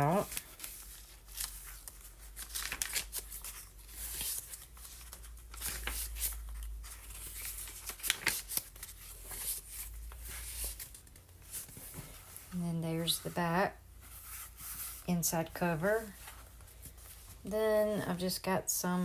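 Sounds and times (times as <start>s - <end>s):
paper pages rustling and crinkling: 0.0s - 17.5s.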